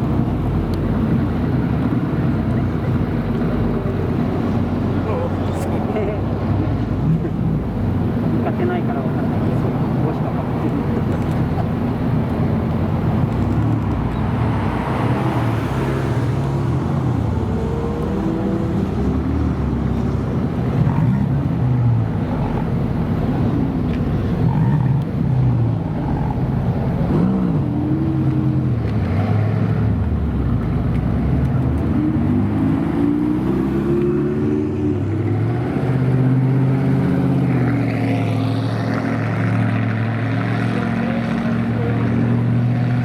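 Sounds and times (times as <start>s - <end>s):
supercar engines revving: 0.0s - 43.0s.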